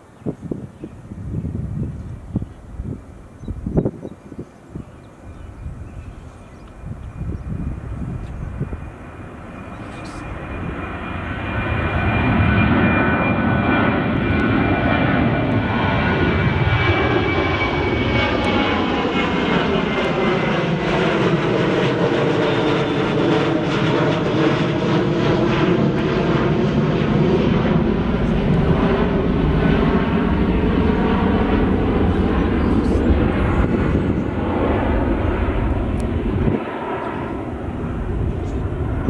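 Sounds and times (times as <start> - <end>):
jet airliner roaring overhead: 0.0 - 39.0.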